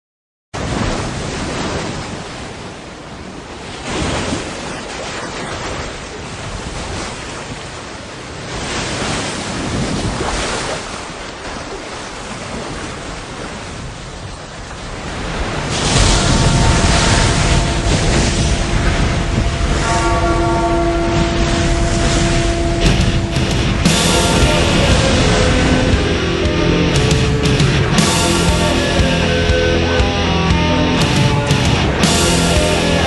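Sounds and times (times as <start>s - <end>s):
wind: 0.6s - 30.5s
rough sea: 0.6s - 33.0s.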